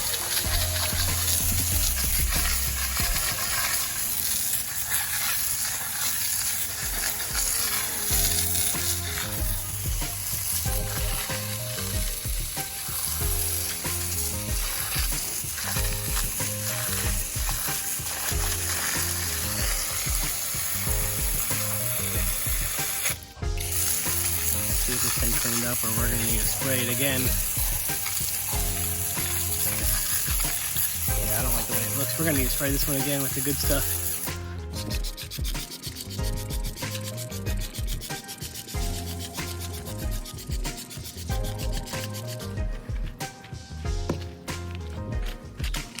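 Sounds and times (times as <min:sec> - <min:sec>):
music with stepping bass line: 0:00.0 - 0:03.5, 0:08.1 - 0:46.0
pressure washer spraying: 0:00.0 - 0:46.0.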